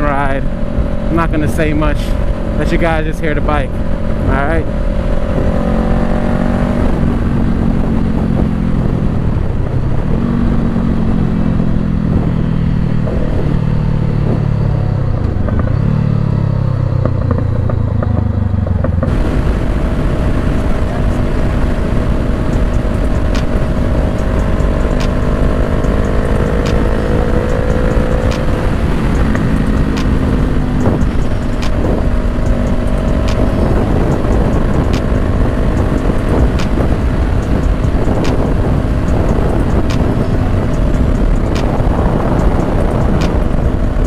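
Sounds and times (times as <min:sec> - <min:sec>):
wind rushing: 0:00.0 - 0:15.8, 0:19.0 - 0:44.0
motorcycle engine: 0:00.0 - 0:44.0.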